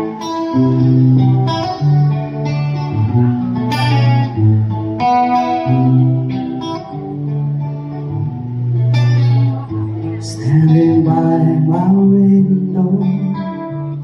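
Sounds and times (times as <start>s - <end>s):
bass line: 0.0s - 14.0s
guitar chords ringing: 0.0s - 14.0s.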